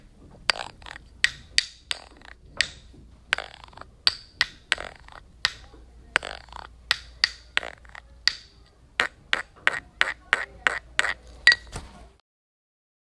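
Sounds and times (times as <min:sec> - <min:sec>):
rhythmic percussive clicks: 0:00.0 - 0:11.7.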